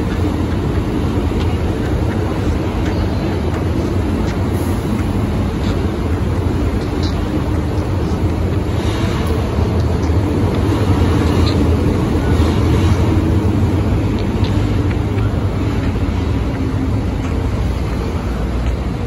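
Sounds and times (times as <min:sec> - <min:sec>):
train rumbling into station: 0:00.0 - 0:19.0.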